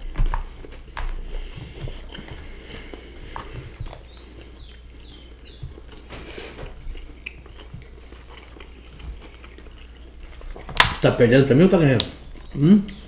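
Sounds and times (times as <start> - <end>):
close chewing with mouth smacks: 0.0 - 13.0.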